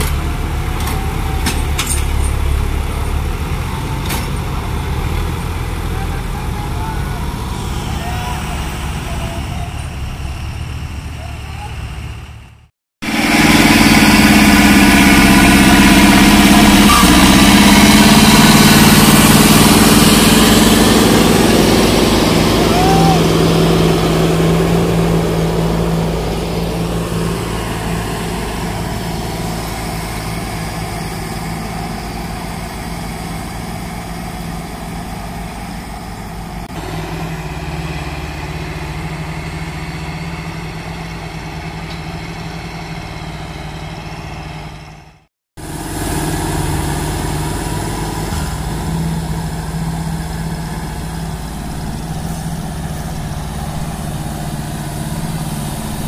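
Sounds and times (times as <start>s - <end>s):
diesel tractor engines running: 0.0s - 56.0s.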